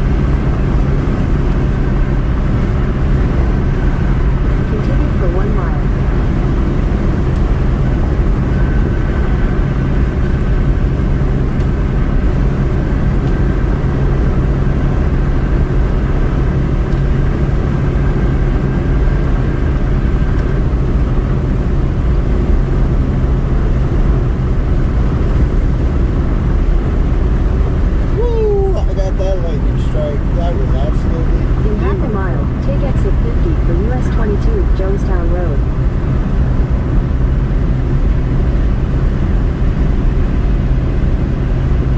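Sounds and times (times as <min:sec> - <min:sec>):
car engine: 0:00.0 - 0:41.9
road rumble: 0:00.0 - 0:41.9.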